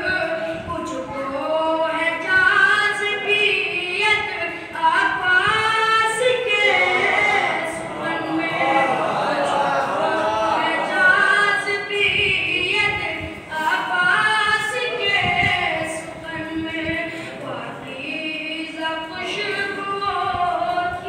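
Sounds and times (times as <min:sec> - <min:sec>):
boy chanting: 0:00.0 - 0:21.0.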